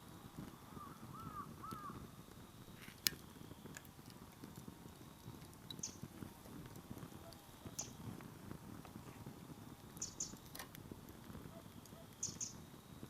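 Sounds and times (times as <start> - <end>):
firewood crackling: 0.0 - 13.0
flame rushing: 0.0 - 13.0.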